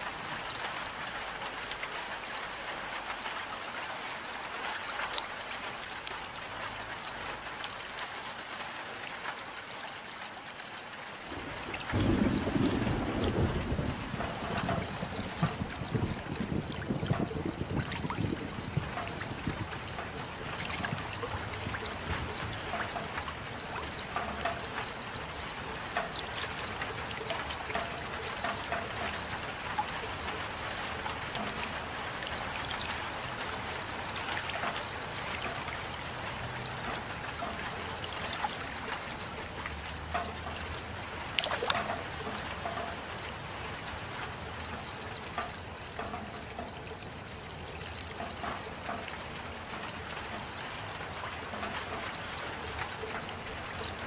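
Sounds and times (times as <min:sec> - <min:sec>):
rain falling: 0:00.0 - 0:54.0
rain spatter: 0:00.0 - 0:54.0
trickling water: 0:00.0 - 0:54.0.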